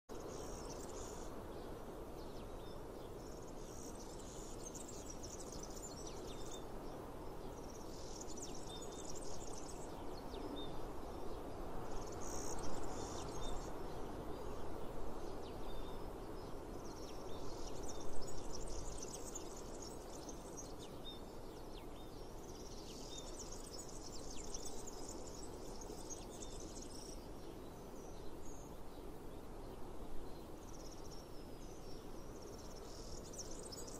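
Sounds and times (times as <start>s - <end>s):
background hiss: 0.1s - 33.9s.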